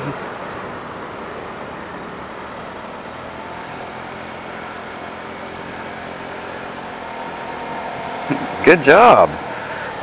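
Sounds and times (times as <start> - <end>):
motor scooter engine humming: 0.0 - 10.0.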